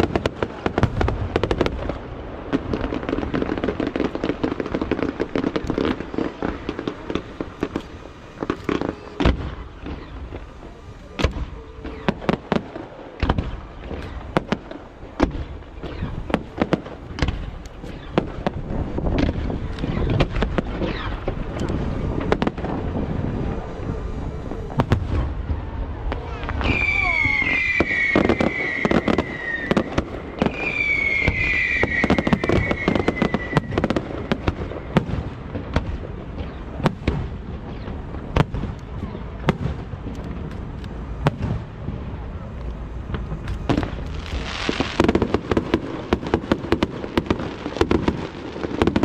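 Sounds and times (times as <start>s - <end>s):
fireworks bangs and crackle: 0.0s - 49.0s.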